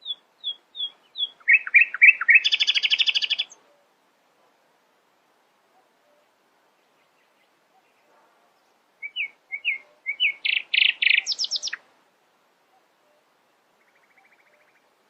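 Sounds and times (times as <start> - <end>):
songbird singing: 0.0 - 4.0, 5.6 - 15.0.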